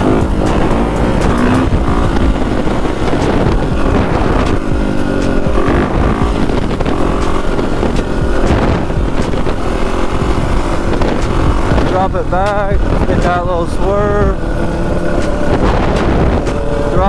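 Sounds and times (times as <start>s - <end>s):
dirt bike engine revving: 0.0s - 17.0s
wind rumbling on microphone: 0.0s - 17.0s.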